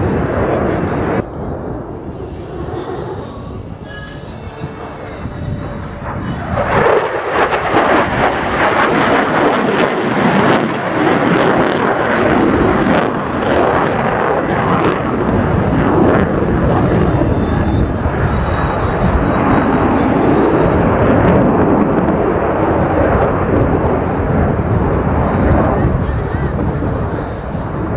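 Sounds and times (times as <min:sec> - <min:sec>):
jet engine roar: 0:00.0 - 0:27.9.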